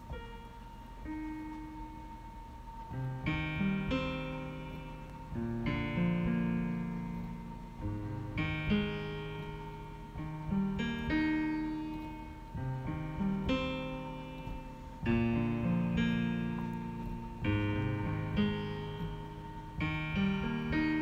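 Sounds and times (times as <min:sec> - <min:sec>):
acoustic guitar chords: 0:03.0 - 0:21.0.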